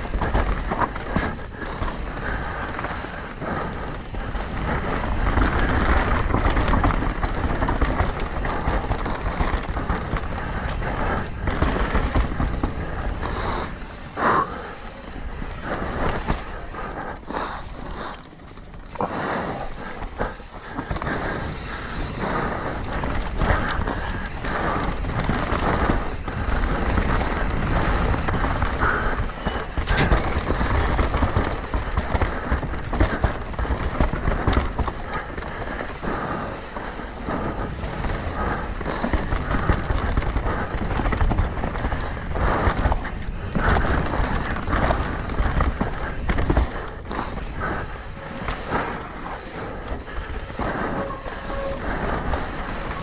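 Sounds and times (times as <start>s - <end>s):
bike clattering over bumps: 0.0s - 53.0s
bike tyres on rough trail: 0.0s - 53.0s.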